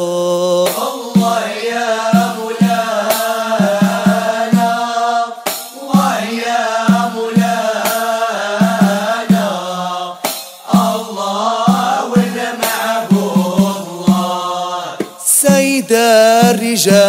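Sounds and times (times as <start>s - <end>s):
drum strokes: 0.0s - 17.0s
voices chanting: 0.0s - 17.0s.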